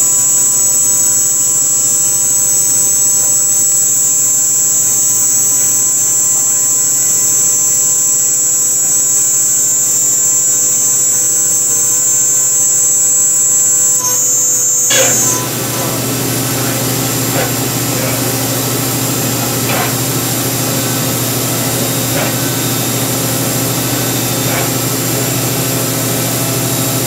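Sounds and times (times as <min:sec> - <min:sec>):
milling machine high whine: 0:00.0 - 0:27.0.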